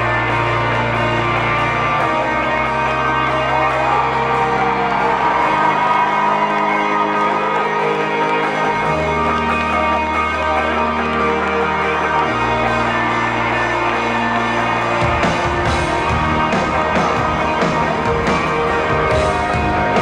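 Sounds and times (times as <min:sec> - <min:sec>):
live rock band music: 0:00.0 - 0:20.0.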